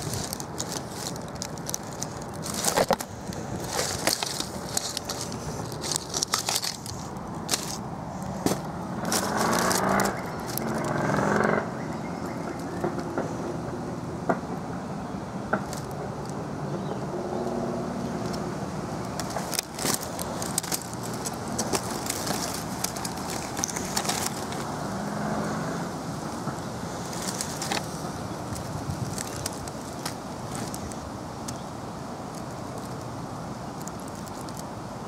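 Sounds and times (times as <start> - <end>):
dry leaves and twigs crackling: 0.0 - 13.3, 15.6 - 35.0
distant road traffic: 0.0 - 35.0.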